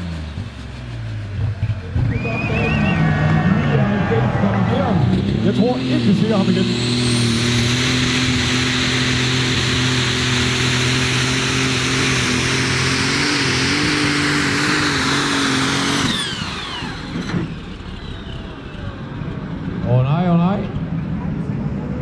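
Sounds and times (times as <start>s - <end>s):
diesel engine running flat out: 0.0s - 22.0s
high turbo whine: 0.0s - 22.0s.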